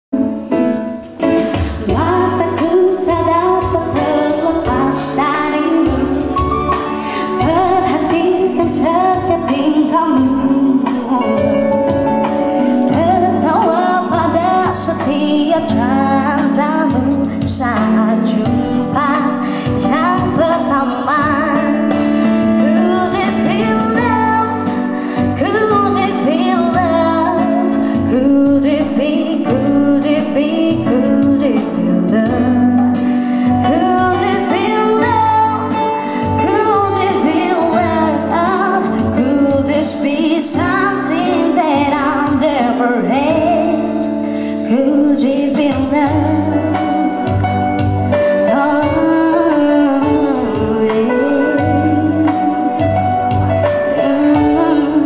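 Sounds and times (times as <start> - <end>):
electronic keyboard chords and bass: 0.1 - 55.0
woman singing into microphone: 1.2 - 55.0.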